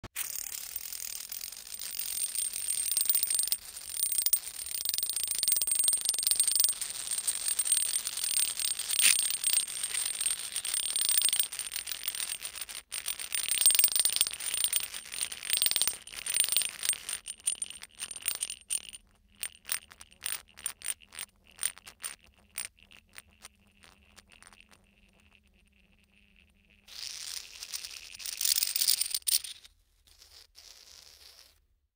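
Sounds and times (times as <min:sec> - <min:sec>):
coins rattling on dry ice: 0:00.2 - 0:25.4, 0:26.1 - 0:31.6.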